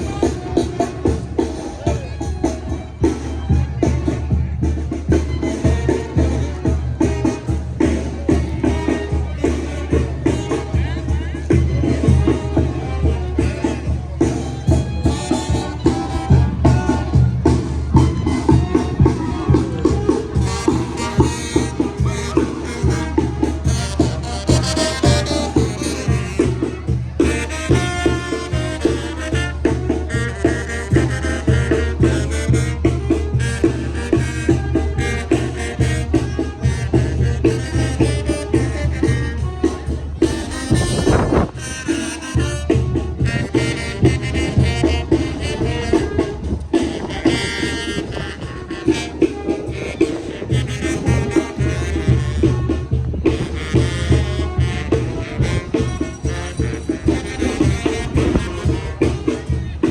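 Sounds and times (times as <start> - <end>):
music with steady drum beat: 0.0 - 59.9.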